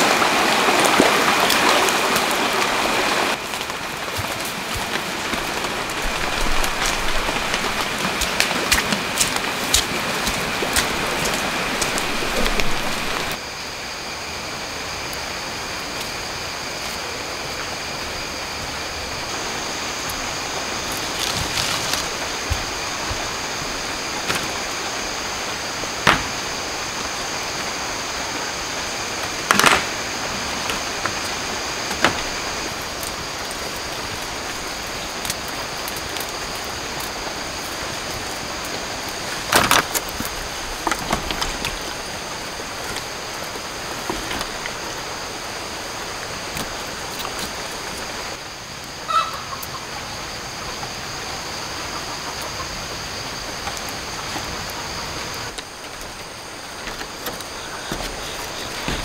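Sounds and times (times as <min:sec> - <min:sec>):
rushing running water: 0:00.0 - 0:49.1, 0:49.8 - 0:59.0.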